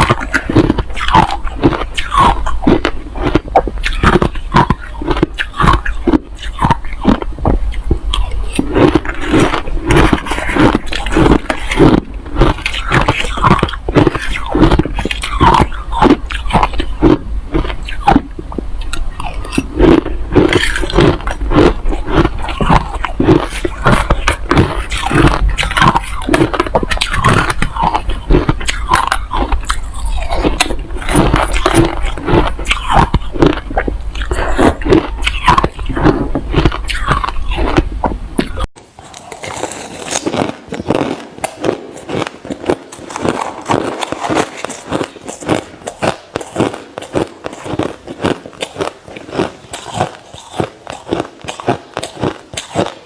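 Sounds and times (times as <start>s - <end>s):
chewing crushed ice crunches: 0.0s - 53.0s.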